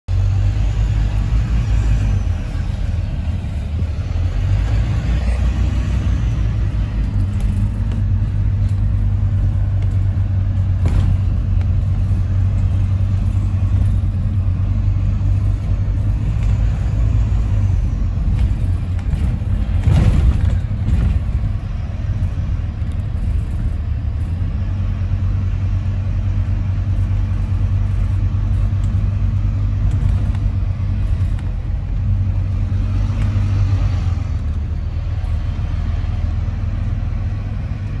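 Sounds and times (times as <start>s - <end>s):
bus engine droning: 0.0s - 38.0s.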